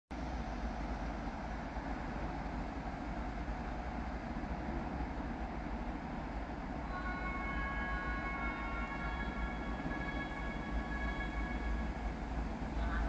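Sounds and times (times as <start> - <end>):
distant train rumble: 0.2 - 13.0.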